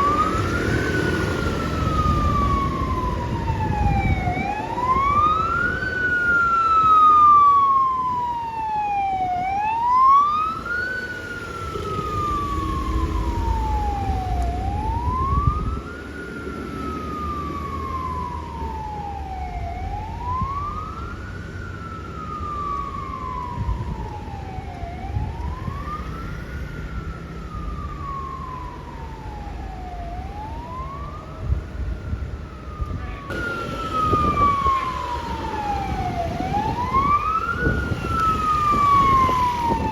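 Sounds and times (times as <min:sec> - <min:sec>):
engine and road rumble: 0:00.0 - 0:39.9
fainter second siren: 0:00.0 - 0:39.9
fire truck siren wailing: 0:00.0 - 0:39.9.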